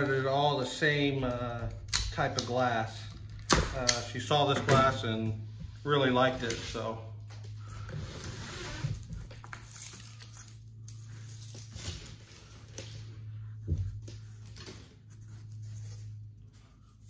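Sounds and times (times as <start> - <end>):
cardboard and plastic rustling: 2.8 - 17.0.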